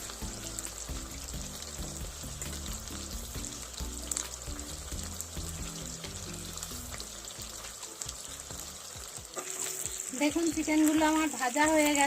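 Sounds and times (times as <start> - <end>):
background music low melody: 0.0 - 12.0
oil sizzling and crackling: 0.0 - 12.0.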